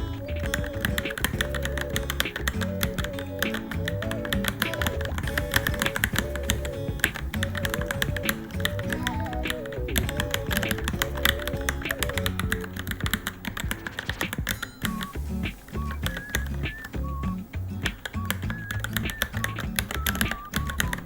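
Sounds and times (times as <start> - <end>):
fast keyboard typing: 0.0 - 15.1, 17.8 - 21.0
background music repeating melody: 0.0 - 21.0.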